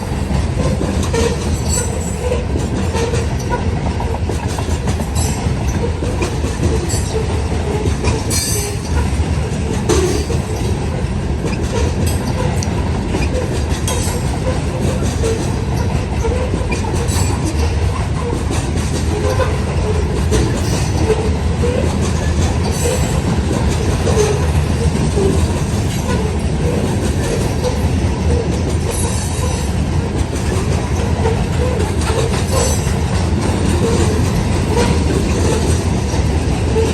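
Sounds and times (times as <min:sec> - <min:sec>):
freight train wheels rumbling: 0:00.0 - 0:36.9
wheels clacking over rail joints: 0:00.0 - 0:36.9.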